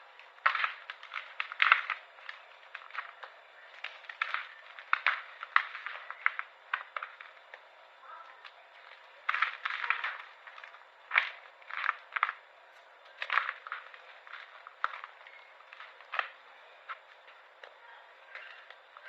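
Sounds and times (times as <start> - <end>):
brittle candy crunching: 0.0 - 19.0.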